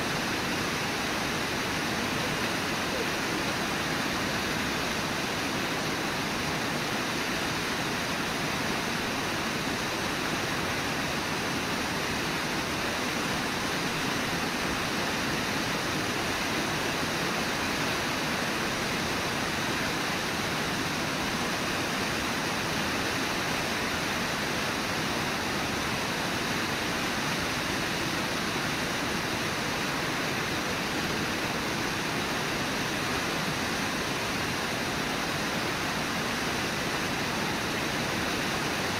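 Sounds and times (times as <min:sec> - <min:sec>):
whitewater river rushing: 0:00.0 - 0:38.9.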